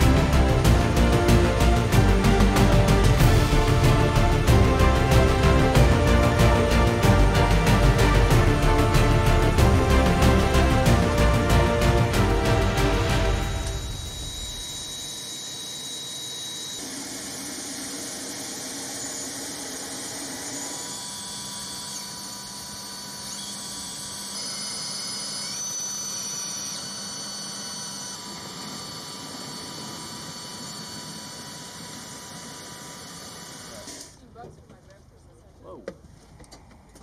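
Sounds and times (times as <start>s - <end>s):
aircraft turbine whine: 0.0s - 34.3s.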